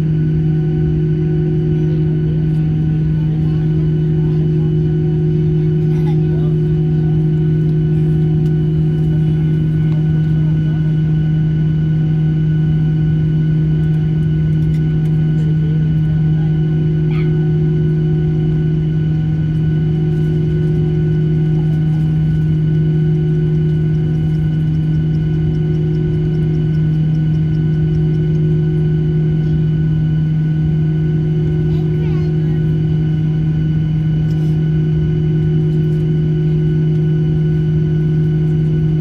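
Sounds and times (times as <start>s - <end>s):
airliner cabin mechanical drone: 0.0s - 39.0s.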